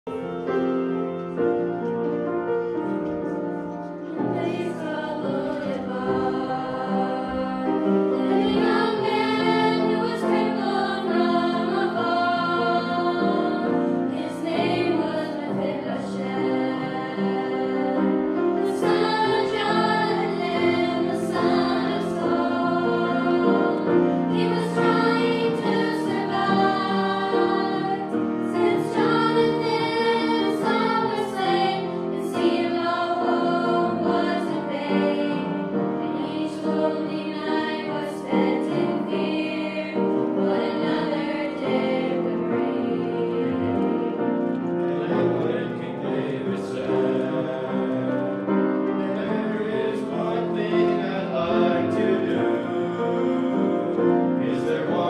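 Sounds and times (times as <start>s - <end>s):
grand piano: 0.0s - 55.0s
choir of young voices singing: 2.7s - 55.0s.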